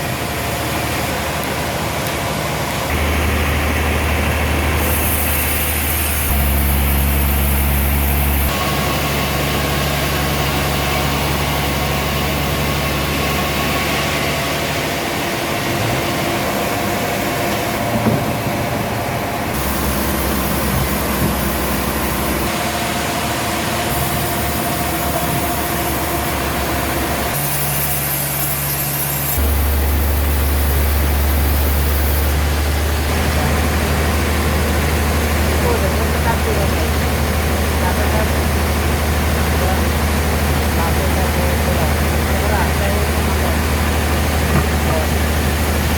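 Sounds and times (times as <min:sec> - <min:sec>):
heavy machinery engines humming: 0:00.0 - 0:45.9.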